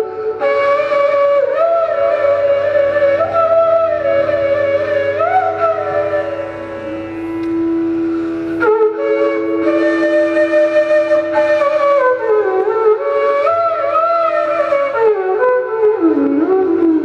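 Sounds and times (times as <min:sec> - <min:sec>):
flute melodic phrases: 0:00.0 - 0:17.0
held flute drone note: 0:00.0 - 0:17.0.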